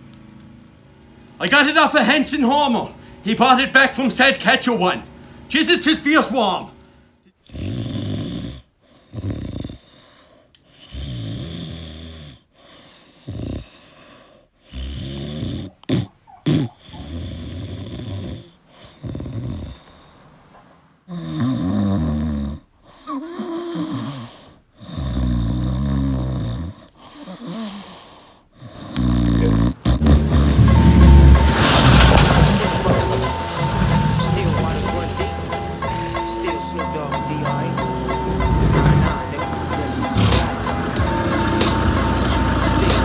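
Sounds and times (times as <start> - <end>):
man snoring: 7.2 - 20.2, 21.1 - 43.0.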